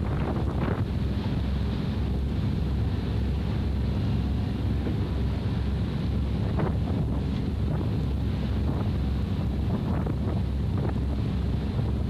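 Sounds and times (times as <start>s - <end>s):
boat engine rumble: 0.0s - 12.0s
wind buffeting microphone: 0.0s - 12.0s.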